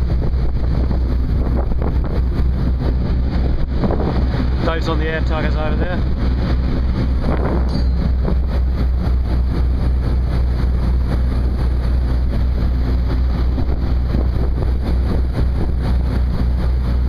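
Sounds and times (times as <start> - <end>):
ship machinery drone: 0.0 - 17.0.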